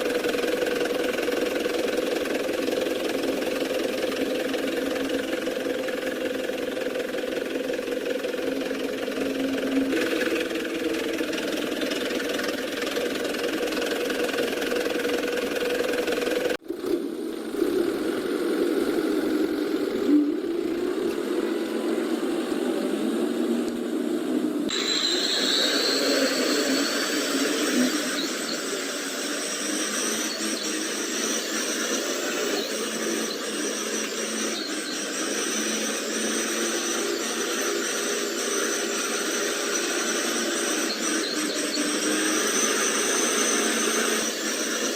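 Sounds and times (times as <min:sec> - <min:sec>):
toy truck motor whining: 0:00.0 - 0:23.6, 0:24.6 - 0:44.9.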